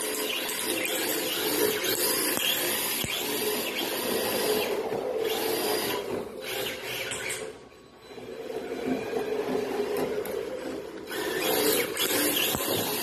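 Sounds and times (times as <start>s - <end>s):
rc car electric motor whining: 0.0s - 7.6s, 8.6s - 13.0s.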